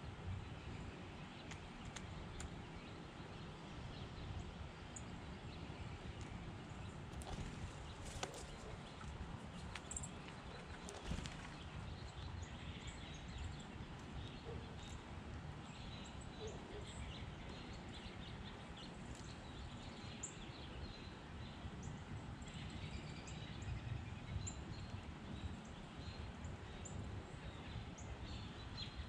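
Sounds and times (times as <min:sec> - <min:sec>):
wild birds chirping: 0:00.0 - 0:29.0.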